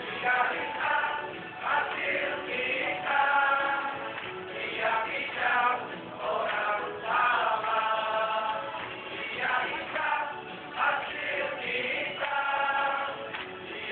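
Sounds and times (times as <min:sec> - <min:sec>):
group singing: 0:00.0 - 0:13.9.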